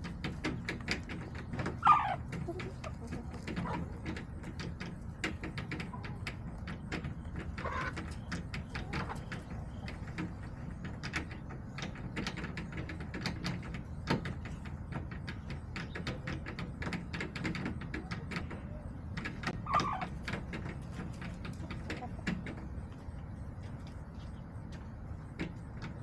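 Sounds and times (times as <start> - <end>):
hens pecking at hard surface: 0.0 - 26.0.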